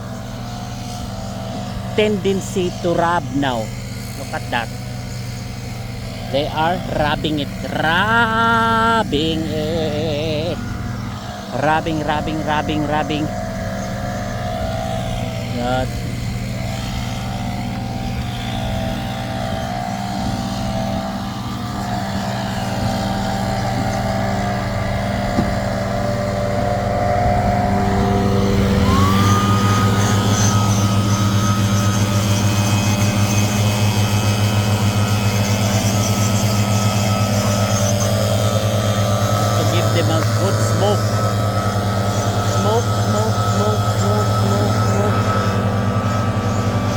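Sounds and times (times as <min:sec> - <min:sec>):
small gas engine blower running: 0:00.0 - 0:46.9.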